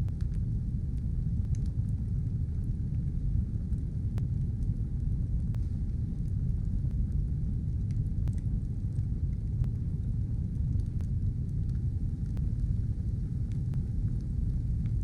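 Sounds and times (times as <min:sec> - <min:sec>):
fire crackling: 0:00.0 - 0:15.0
fire rumbling: 0:00.0 - 0:15.0.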